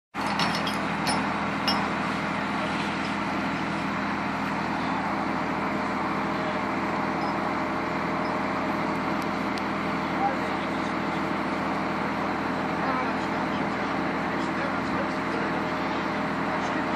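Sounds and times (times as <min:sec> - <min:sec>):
vehicle engine idling: 0:00.2 - 0:16.9.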